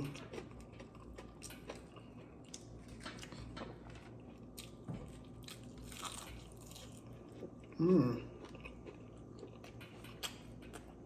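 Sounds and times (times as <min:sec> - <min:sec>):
chewing fried food: 0:00.0 - 0:11.0.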